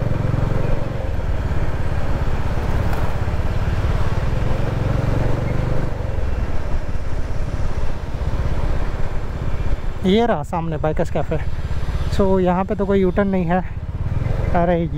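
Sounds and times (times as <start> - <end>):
motorcycle engine running: 0.0 - 10.0, 11.2 - 14.9.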